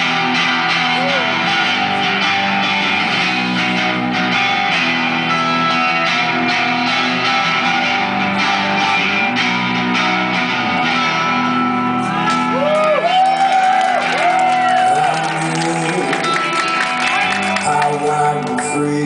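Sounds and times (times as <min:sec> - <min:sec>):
live band playing: 0:00.0 - 0:12.9, 0:14.2 - 0:18.8
guitar with pitch bends: 0:00.0 - 0:13.0, 0:14.6 - 0:19.0.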